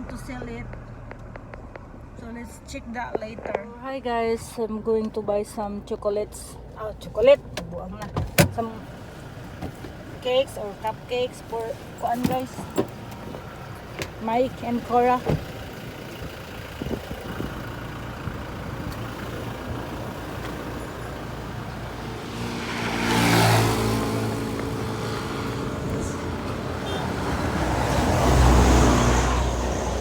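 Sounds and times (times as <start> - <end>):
traffic rumble: 0.0 - 30.0
vehicles passing close by: 0.0 - 30.0.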